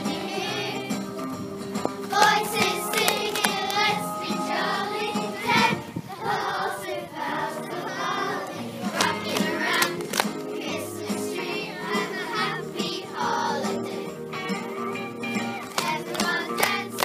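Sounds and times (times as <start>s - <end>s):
children singing in chorus: 0.0s - 1.0s, 2.1s - 14.3s, 15.7s - 17.0s.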